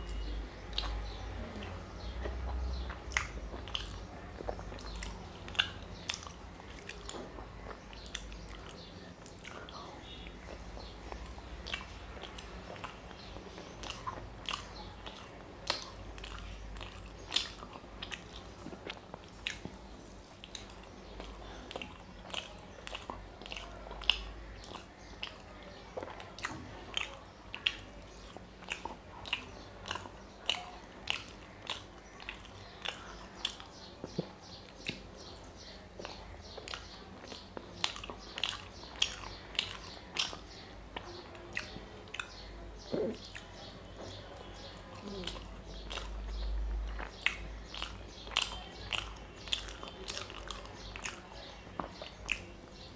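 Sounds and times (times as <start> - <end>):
chewing and wet lip smacks: 0.0 - 52.9.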